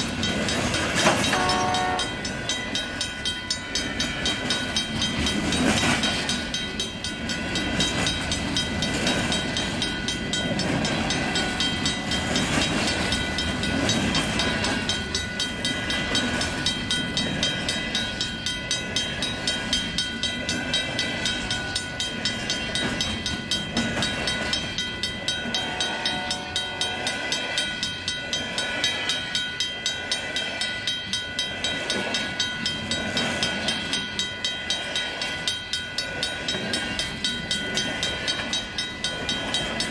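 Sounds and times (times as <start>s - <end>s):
freight train rolling past: 0.0s - 39.9s
high-pitched ringing: 0.0s - 39.9s
wheels clicking over rail joints: 0.0s - 39.9s.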